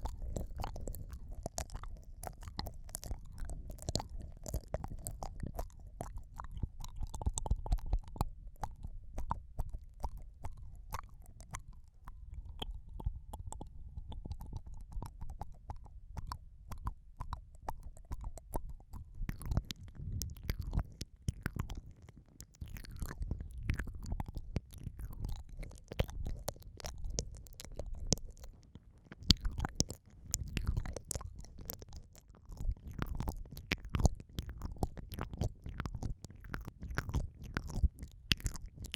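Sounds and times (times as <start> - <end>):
wet mouth sounds: 0.0 - 38.9.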